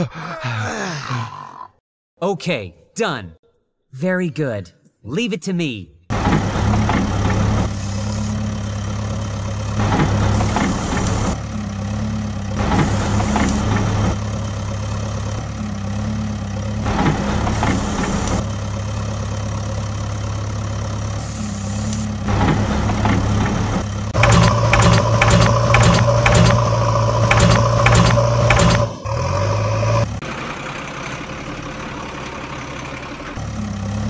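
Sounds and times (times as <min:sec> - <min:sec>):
heavy excavator engine running: 0:06.1 - 0:34.0.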